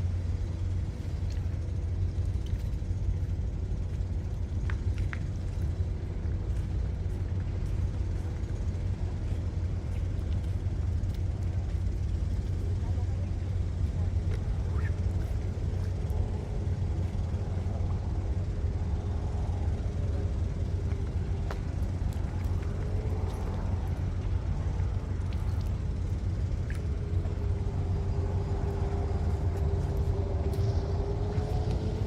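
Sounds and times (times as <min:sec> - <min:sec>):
motor running steadily: 0:00.0 - 0:32.0.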